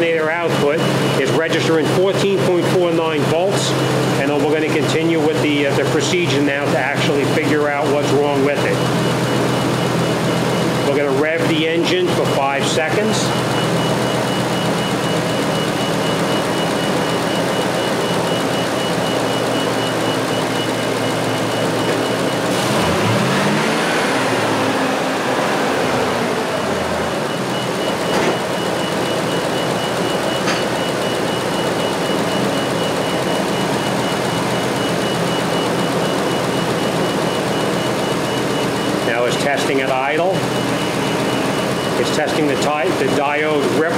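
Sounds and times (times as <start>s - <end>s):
high-pitched beeping tone: 0.0s - 43.9s
pickup engine idling and revving: 0.0s - 43.9s.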